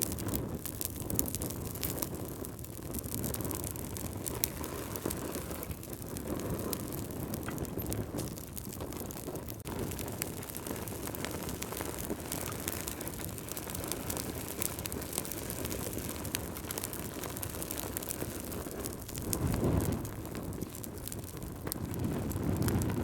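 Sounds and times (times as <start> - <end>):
fire flames rumbling: 0.0 - 23.0
logs crackling and popping: 0.0 - 23.0
whoosh of flame: 0.0 - 23.0.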